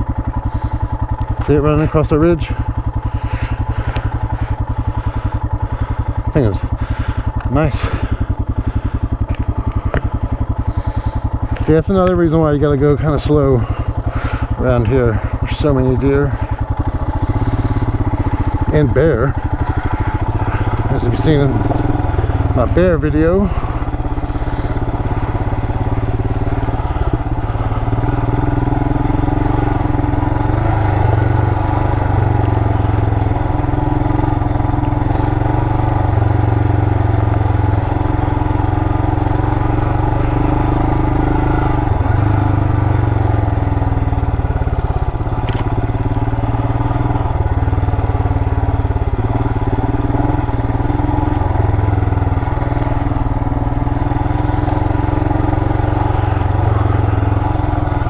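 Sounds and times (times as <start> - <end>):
motorcycle engine at low speed: 0.0 - 58.0.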